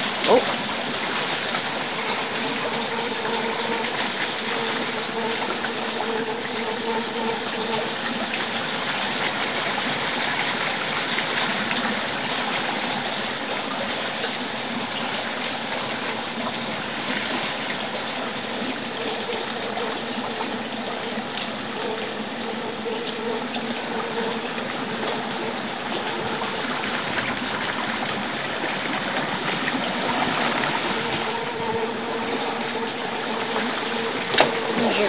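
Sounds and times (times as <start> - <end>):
faint steady tone: 0.0 - 9.4, 14.7 - 35.0
boat motor running: 0.0 - 35.0
water churning along hull: 0.0 - 35.0.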